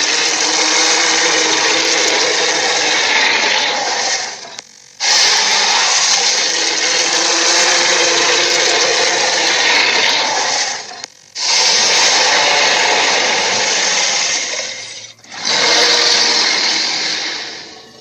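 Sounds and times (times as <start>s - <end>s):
rough hissing dinosaur roars: 0.0s - 18.0s.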